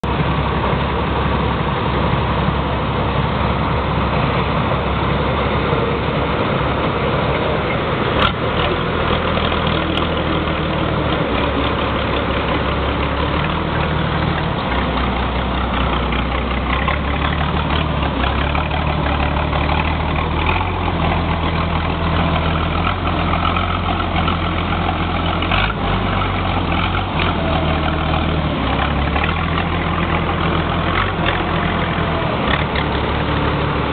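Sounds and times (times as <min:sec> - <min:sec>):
engine idling with deep rumble: 0:00.0 - 0:33.9.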